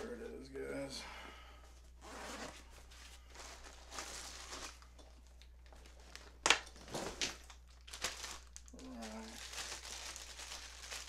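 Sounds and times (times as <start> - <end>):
nylon bag rustling and crinkling: 2.0 - 11.0.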